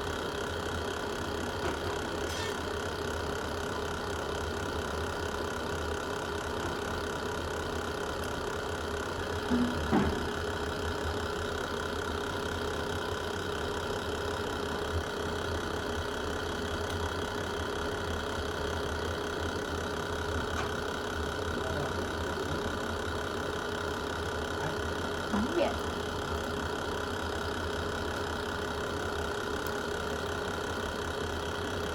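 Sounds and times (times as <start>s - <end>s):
wood fire rumbling and hissing: 0.0s - 31.9s.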